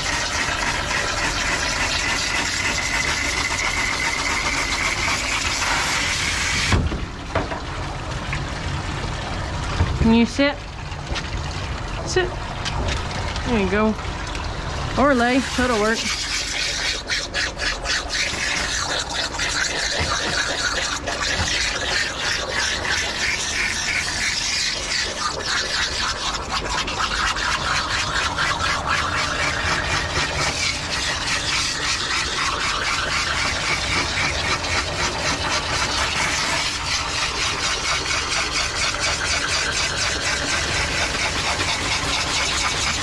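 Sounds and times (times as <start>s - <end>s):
hose spraying water: 0.0s - 6.9s, 14.9s - 43.0s.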